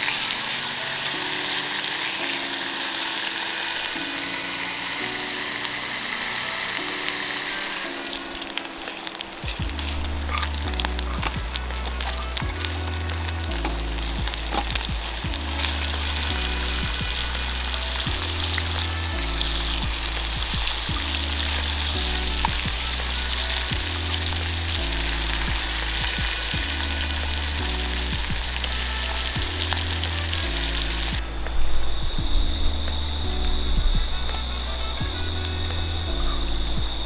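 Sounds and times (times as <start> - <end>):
food sizzling in a pan: 0.0 - 31.2
background music low chords: 0.0 - 37.0.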